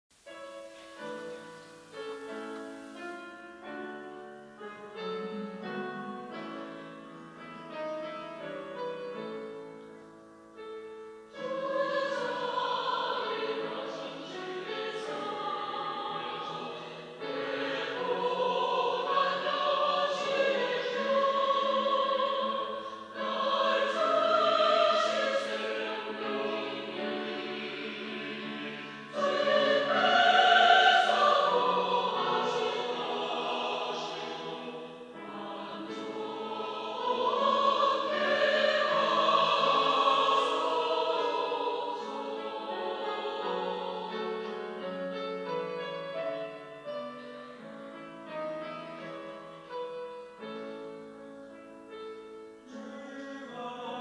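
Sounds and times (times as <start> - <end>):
choir singing: 0.6 - 10.0, 11.2 - 51.2, 52.7 - 54.0.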